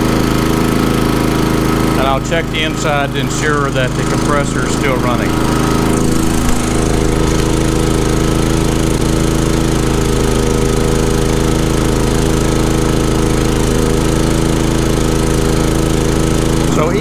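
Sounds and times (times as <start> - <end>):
generator running: 0.0 - 17.0.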